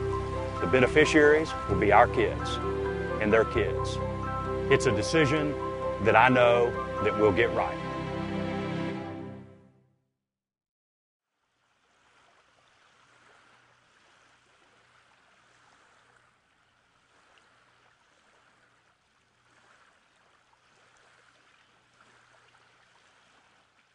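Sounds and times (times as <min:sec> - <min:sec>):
moving water: 0:00.0 - 0:08.0, 0:11.3 - 0:23.9.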